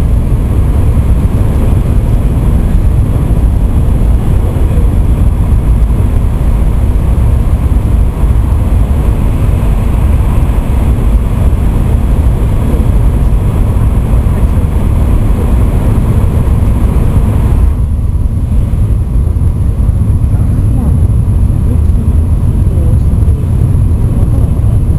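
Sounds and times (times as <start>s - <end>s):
train rumble: 0.0s - 24.9s.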